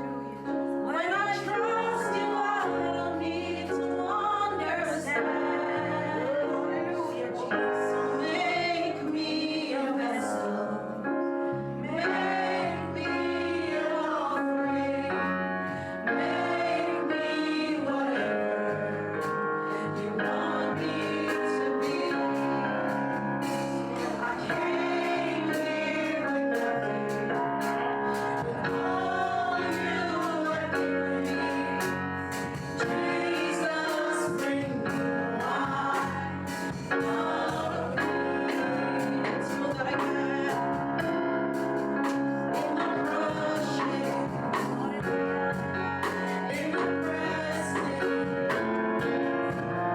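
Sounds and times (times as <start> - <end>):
sustained instrumental chords: 0.0 - 49.9
voices singing together: 0.0 - 49.9.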